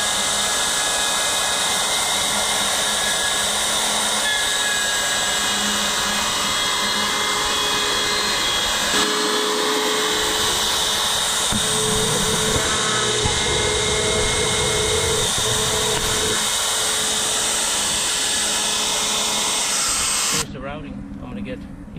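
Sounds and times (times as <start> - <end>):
router motor whine: 0.0 - 20.5.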